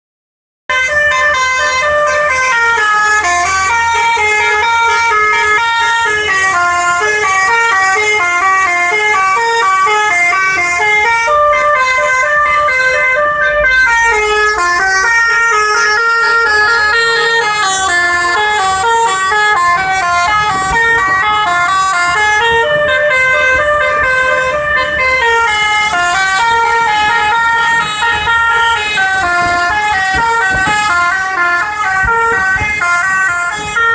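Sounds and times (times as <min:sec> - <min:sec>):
musical bus horn melody: 0:00.7 - 0:33.9.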